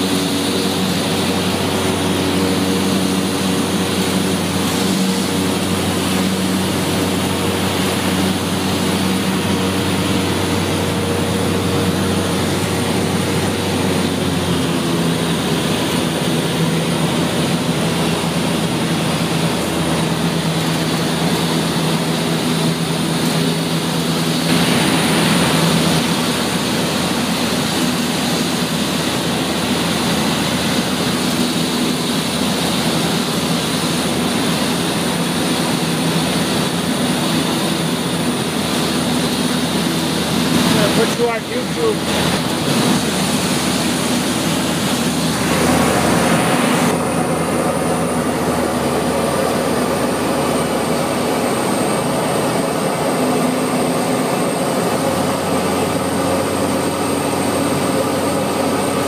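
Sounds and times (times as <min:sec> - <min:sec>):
propeller airplane engine droning: 0:00.0 - 0:59.0.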